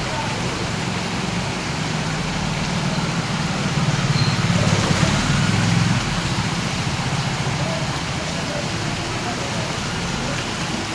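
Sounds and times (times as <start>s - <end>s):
steady rain hiss: 0.0s - 10.9s.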